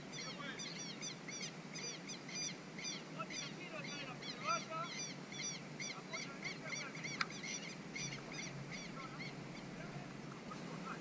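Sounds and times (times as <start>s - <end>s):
birds chirping rapidly: 0.0s - 11.0s.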